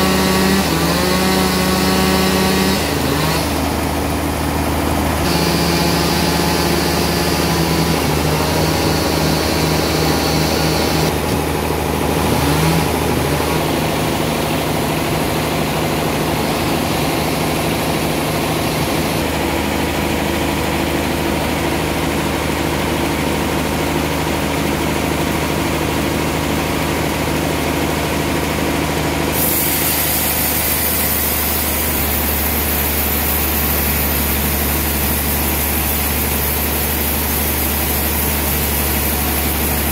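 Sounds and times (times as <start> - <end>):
chainsaw running: 0.0 - 20.1, 25.4 - 39.9
steady motor hum: 0.0 - 39.9.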